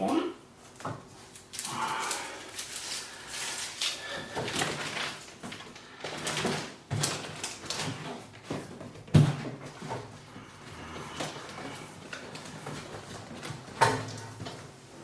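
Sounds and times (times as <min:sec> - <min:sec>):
plastic film rustling and crinkling: 0:00.6 - 0:15.0.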